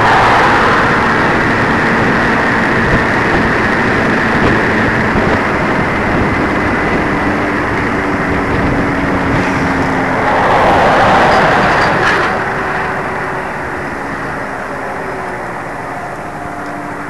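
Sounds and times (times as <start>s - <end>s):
car engine: 0.0s - 17.0s
tyre road rush: 0.0s - 17.0s.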